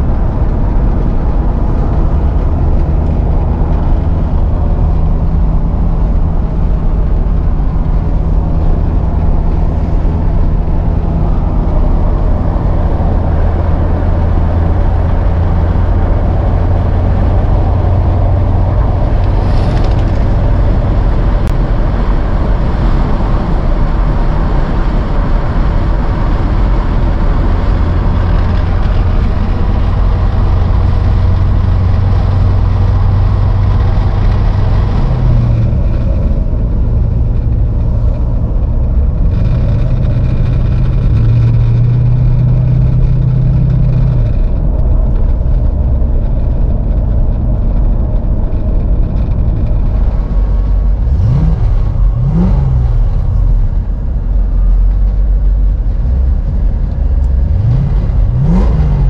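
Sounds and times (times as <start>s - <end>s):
car engine running: 0.0s - 59.0s
road and wind noise: 0.0s - 59.0s.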